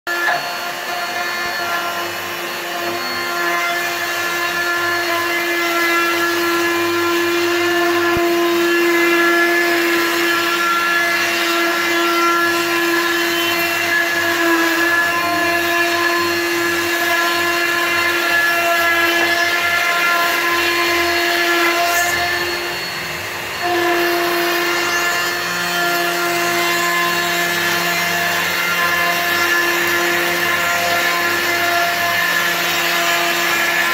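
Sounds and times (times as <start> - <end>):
router whining across wood: 0.1 - 33.9.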